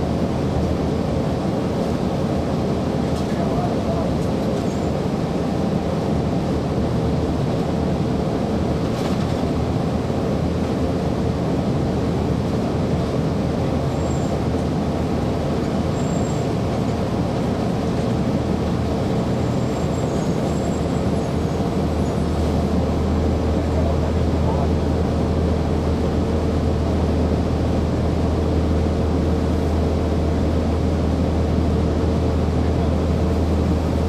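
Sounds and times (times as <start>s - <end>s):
bus diesel engine droning: 0.0s - 34.0s.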